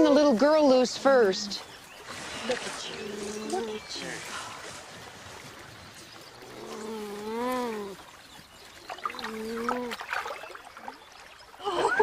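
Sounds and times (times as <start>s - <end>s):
trickling stream water: 0.0s - 12.0s.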